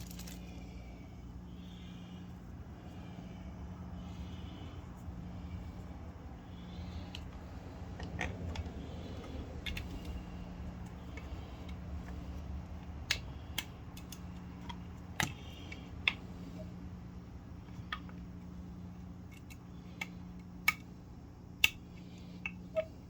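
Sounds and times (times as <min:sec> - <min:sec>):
air pump humming: 0:00.0 - 0:23.0.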